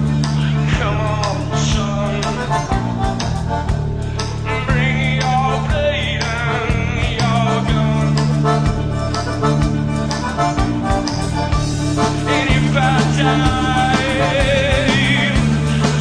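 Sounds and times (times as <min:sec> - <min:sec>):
sustained low notes: 0:00.0 - 0:16.0.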